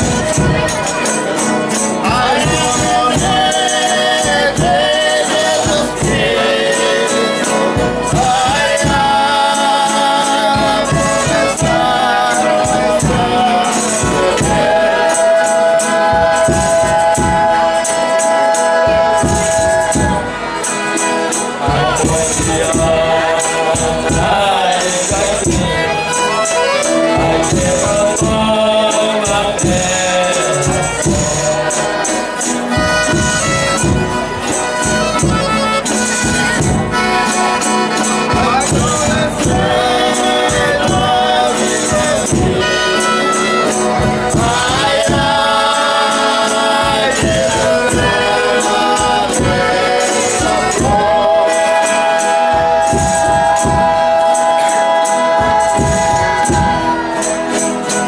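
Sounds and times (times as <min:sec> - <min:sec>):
group singing in chorus: 0:00.0 - 0:58.0
steady percussion beat: 0:00.0 - 0:58.0
tambourine: 0:00.0 - 0:58.0.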